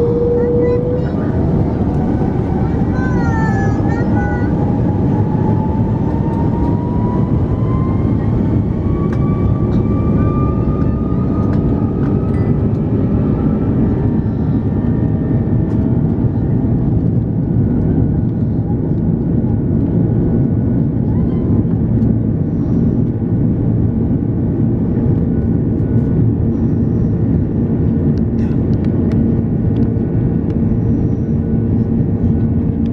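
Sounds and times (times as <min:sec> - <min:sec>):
faint engine whine: 0:00.0 - 0:32.9
jet engine rumble in cabin: 0:00.0 - 0:32.9.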